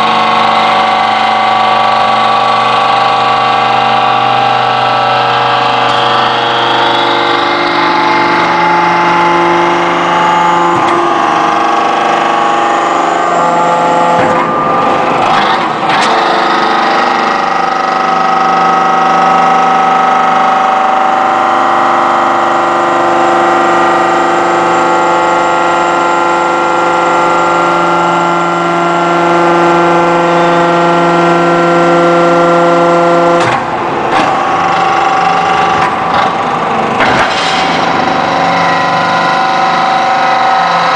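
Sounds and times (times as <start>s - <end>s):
hydraulic press whine: 0.0s - 40.9s.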